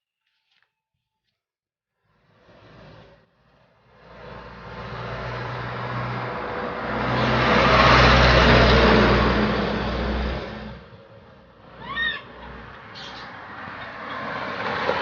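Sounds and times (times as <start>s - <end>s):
vehicle passing by: 2.1s - 15.0s.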